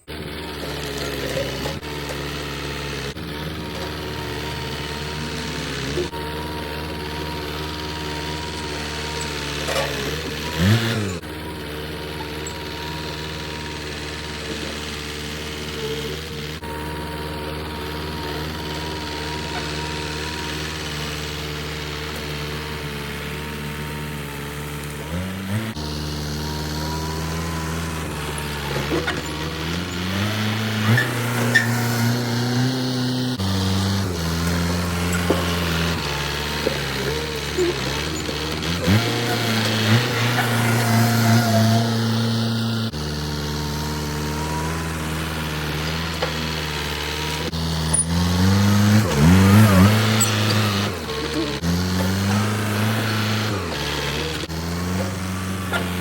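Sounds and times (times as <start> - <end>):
small engine idling: 0.0 - 56.0.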